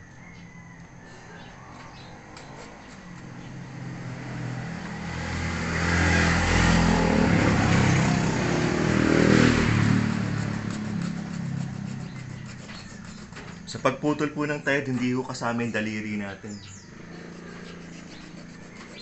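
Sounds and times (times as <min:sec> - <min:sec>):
vehicle engine passing by: 0:01.3 - 0:14.4, 0:15.0 - 0:19.0.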